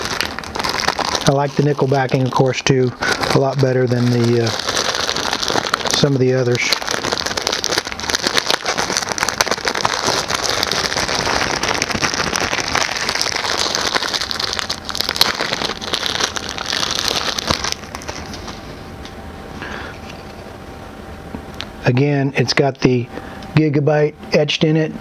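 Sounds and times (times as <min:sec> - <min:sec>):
plastic wrapping crinkling: 0:00.0 - 0:20.4.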